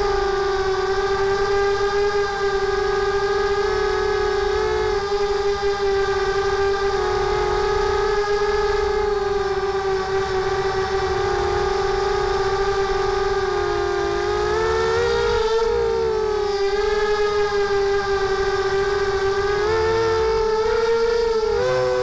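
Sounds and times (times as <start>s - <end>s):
drone motors whining: 0.0s - 22.0s
low wind rumble: 0.0s - 22.0s.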